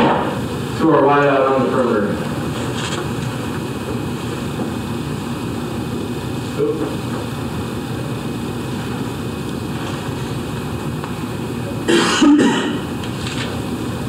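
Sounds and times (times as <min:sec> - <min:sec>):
fan hum: 0:00.0 - 0:14.0.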